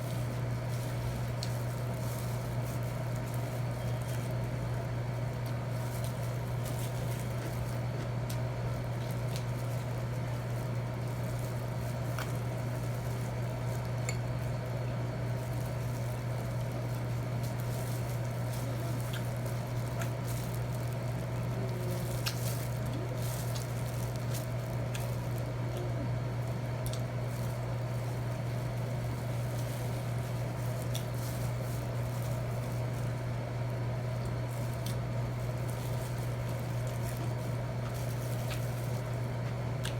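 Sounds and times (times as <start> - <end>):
chewing: 5.4 - 14.4, 15.2 - 39.9.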